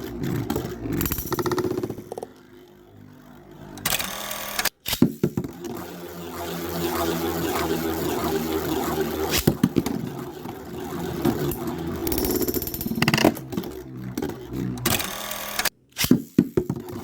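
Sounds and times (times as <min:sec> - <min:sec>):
spinning tops whirring: 0:00.0 - 0:17.0.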